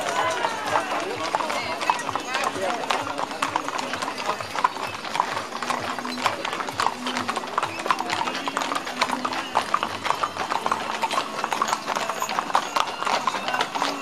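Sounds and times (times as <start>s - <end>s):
horse hooves clip-clopping on asphalt: 0.0s - 14.0s.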